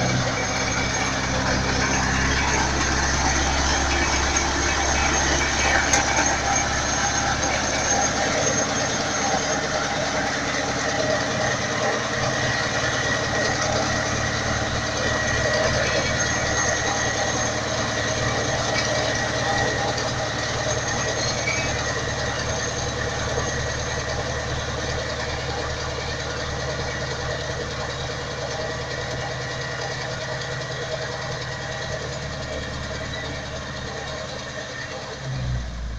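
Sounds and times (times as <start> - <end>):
diesel tractor engine running: 0.0 - 35.9
potato digger mechanical clatter: 0.0 - 35.9.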